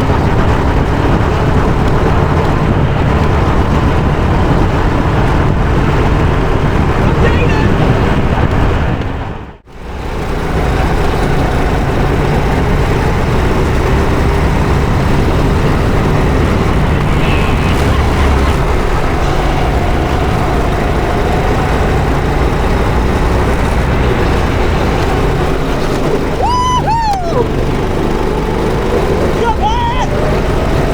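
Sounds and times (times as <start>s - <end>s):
go-kart engine running: 0.0s - 30.9s.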